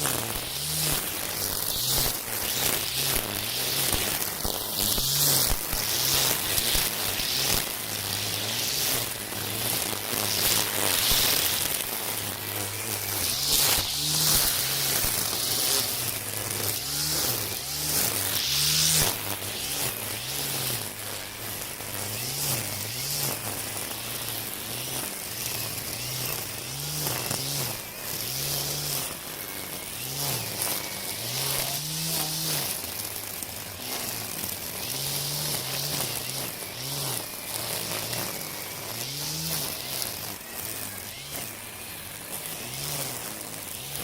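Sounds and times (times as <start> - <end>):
line tearing through grass: 0.0 - 44.0
string trimmer motor whine: 0.0 - 44.0.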